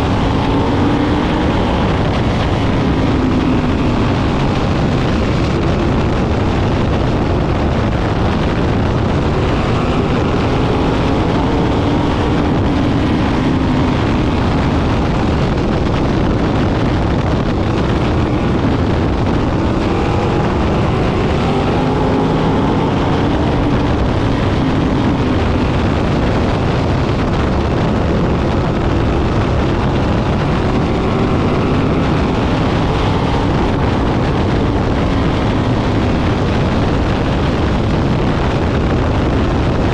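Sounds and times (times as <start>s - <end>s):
race car engines droning: 0.0s - 39.9s
wind noise on microphone: 0.0s - 39.9s.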